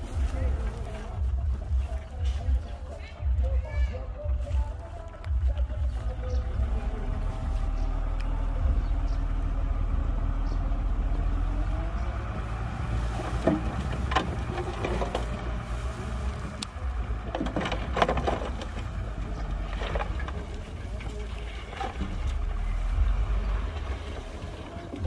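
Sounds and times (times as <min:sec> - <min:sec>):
heavy diesel engine rumbling: 0:00.0 - 0:25.0.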